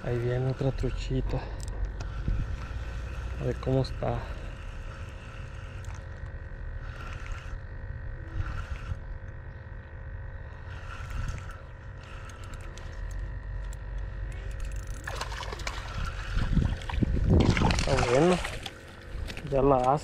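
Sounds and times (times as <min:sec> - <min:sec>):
fishing reel whirring: 0:00.0 - 0:20.0
steady low rumble: 0:00.0 - 0:20.0.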